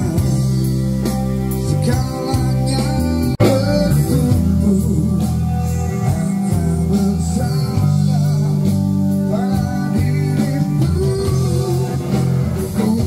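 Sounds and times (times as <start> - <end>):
live band playing: 0.0 - 13.0
steady bass line: 0.0 - 13.0.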